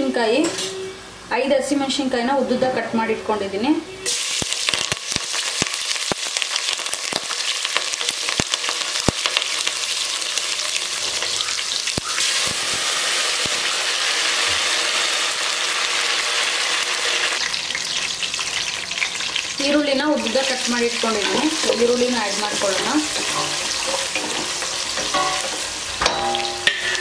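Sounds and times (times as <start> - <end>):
spices sizzling in hot oil: 4.0 - 27.0
oil popping and crackling: 4.1 - 27.0.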